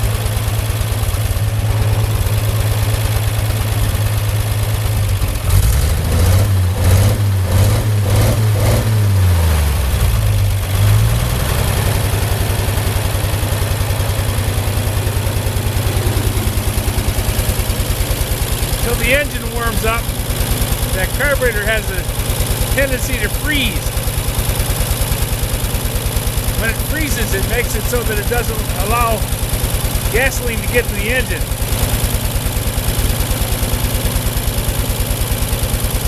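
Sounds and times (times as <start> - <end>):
tractor engine idling: 0.0 - 6.4, 9.8 - 36.0.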